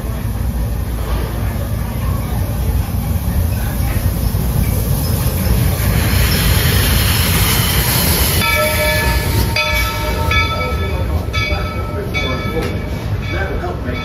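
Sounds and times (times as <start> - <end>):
steam train rumbling: 0.0 - 14.0.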